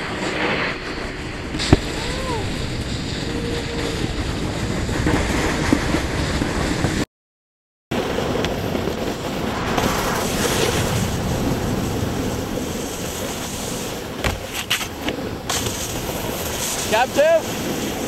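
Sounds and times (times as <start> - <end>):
snowboards sliding on snow: 0.0 - 7.0, 7.9 - 18.0
wind buffeting microphone: 0.0 - 7.0, 7.9 - 18.0.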